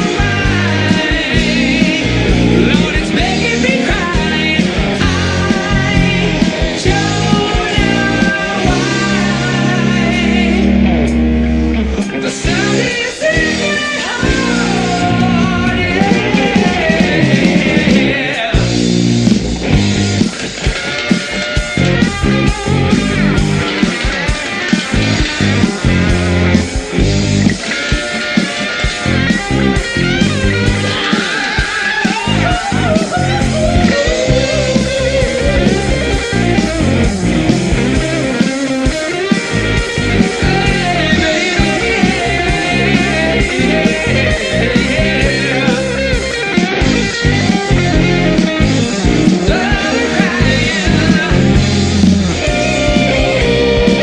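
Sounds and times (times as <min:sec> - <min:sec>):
person singing: 0:00.0 - 0:11.1, 0:12.0 - 0:18.7, 0:27.7 - 0:54.0
drums: 0:00.0 - 0:54.0
guitar bending notes: 0:00.0 - 0:54.0
rock band playing: 0:00.0 - 0:54.0.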